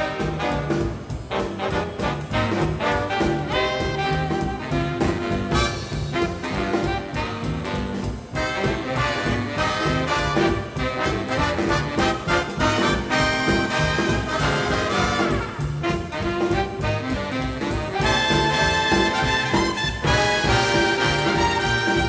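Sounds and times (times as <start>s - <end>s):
swing music with brass: 0.0s - 22.0s.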